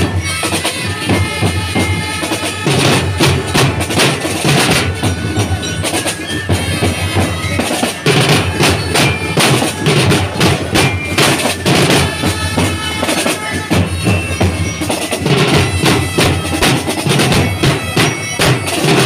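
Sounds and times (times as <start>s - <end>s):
drumline playing: 0.0s - 19.0s
held melodic line: 0.1s - 19.0s.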